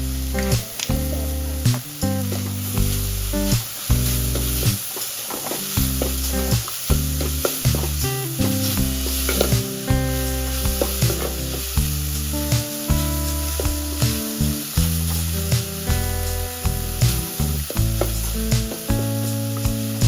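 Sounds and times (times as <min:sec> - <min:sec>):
background music with bass: 0:00.0 - 0:04.9, 0:05.6 - 0:20.0
fish sizzling in hot oil: 0:00.0 - 0:20.0.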